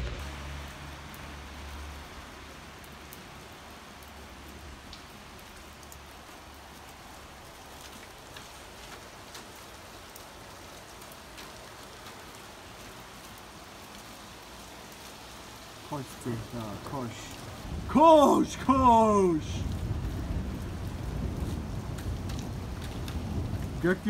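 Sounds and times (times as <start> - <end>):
heavy rain on pavement: 0.0 - 24.0
single raindrops ticking: 2.8 - 24.0.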